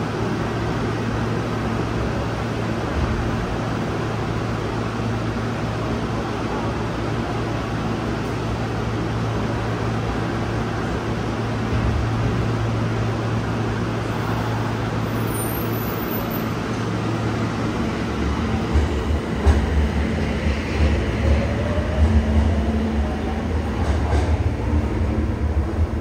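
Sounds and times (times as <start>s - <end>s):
train wheels rumbling over rails: 0.0s - 26.0s.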